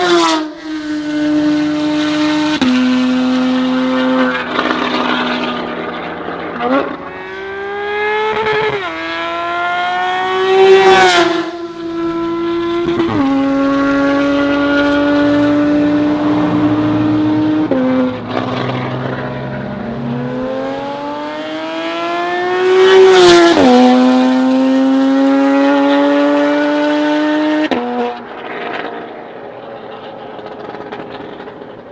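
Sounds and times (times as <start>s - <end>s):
sports car engine accelerating: 0.8s - 29.1s.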